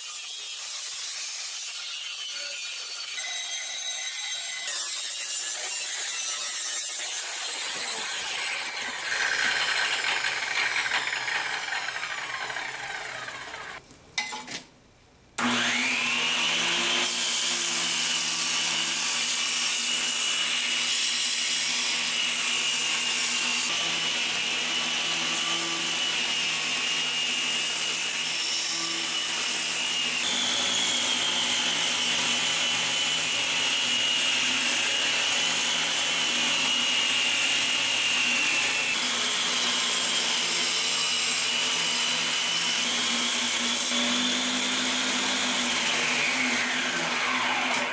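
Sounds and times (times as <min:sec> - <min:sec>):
belt grinder whining: 0:02.8 - 0:13.8, 0:19.9 - 0:47.9.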